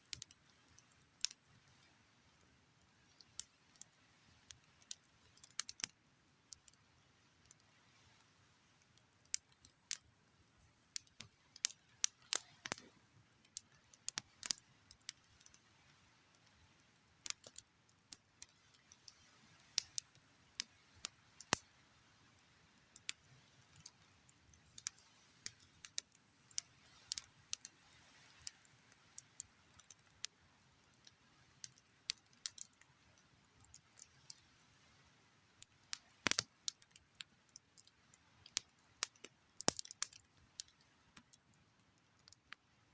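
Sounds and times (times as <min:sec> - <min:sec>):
campfire crackling: 0:00.0 - 0:42.9
faint steady hiss: 0:00.0 - 0:42.9.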